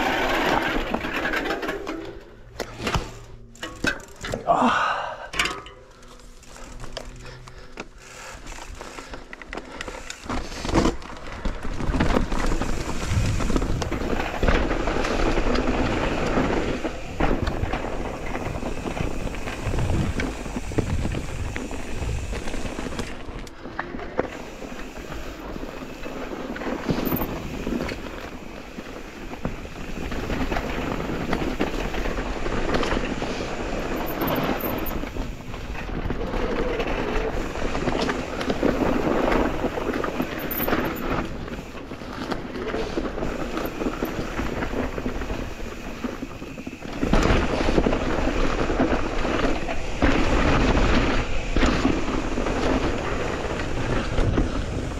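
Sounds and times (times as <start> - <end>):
bike rattling: 0.0 - 54.9
bike tyres rolling on dirt: 0.0 - 54.9.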